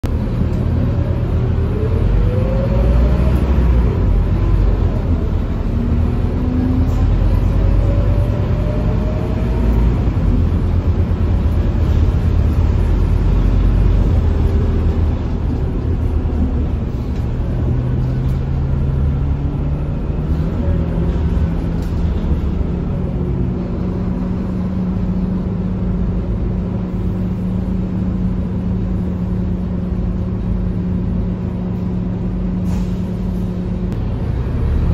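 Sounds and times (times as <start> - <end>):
bus engine drone: 0.0 - 34.9.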